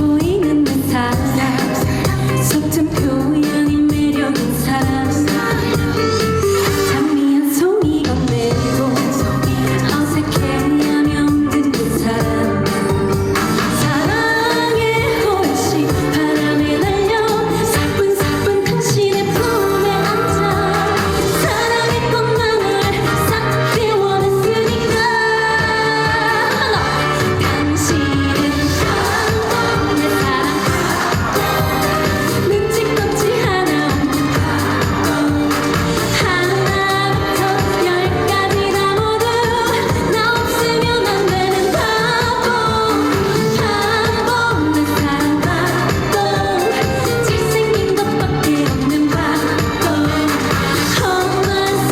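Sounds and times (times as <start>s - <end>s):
band backing track with beat: 0.0s - 51.9s
woman singing pop song: 0.0s - 51.9s.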